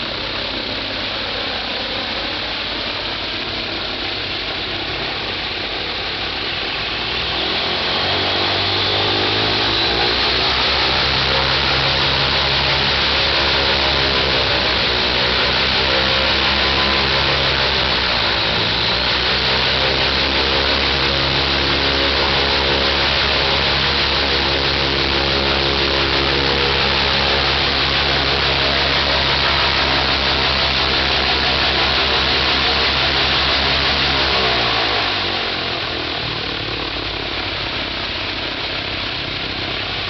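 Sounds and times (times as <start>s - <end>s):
propeller wash rushing: 0.0s - 40.0s
radial aircraft engine running: 0.0s - 40.0s.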